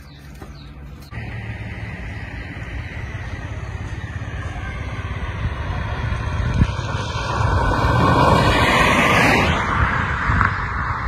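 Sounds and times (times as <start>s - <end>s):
car approaching: 0.0s - 11.0s
low rumble: 1.1s - 11.0s.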